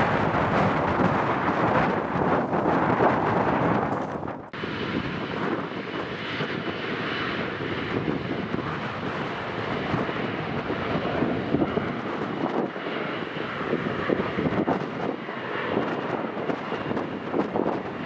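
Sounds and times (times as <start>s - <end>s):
jet engines taxiing: 0.0s - 18.0s.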